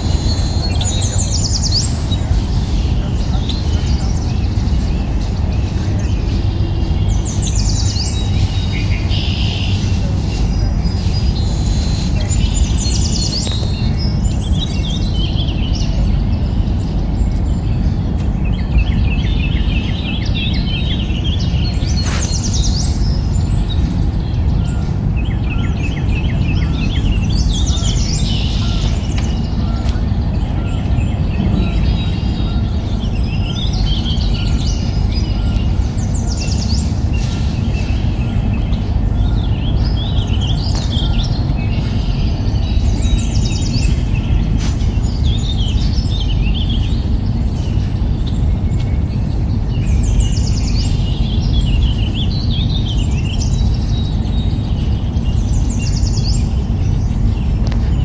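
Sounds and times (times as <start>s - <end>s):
low background rumble: 0.0s - 58.0s
small birds chirping: 0.0s - 58.0s.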